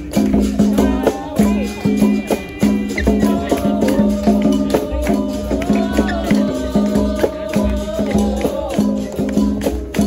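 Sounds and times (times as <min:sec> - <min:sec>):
hand percussion strikes: 0:00.0 - 0:10.0
sung chant: 0:00.0 - 0:10.0.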